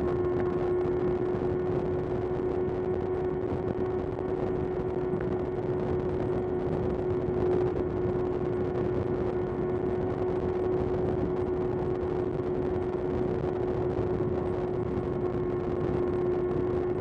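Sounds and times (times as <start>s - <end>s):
wind and road rush: 0.0s - 17.0s.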